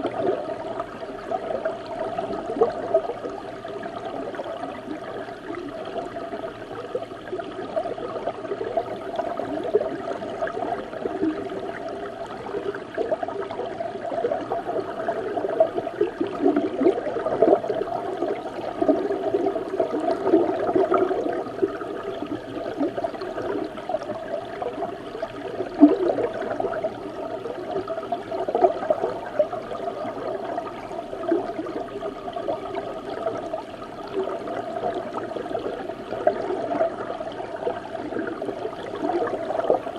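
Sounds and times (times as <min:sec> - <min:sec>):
muffled underwater river bubbling: 0:00.0 - 0:39.9.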